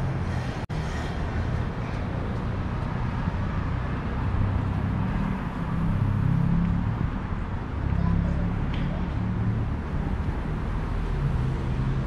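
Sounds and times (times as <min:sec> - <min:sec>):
vehicle engine hum passing: 0:00.0 - 0:12.0.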